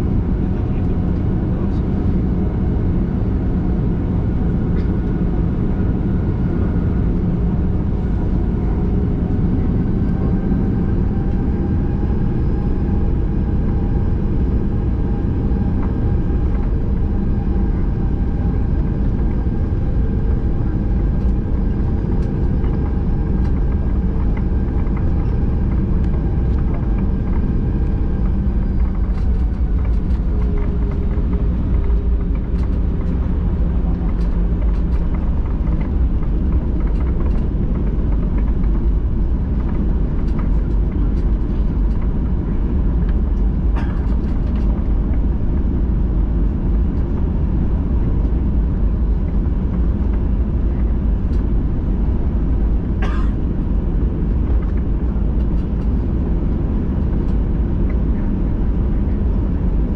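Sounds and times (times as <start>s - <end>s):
aircraft cabin engine hum: 0.0s - 59.9s.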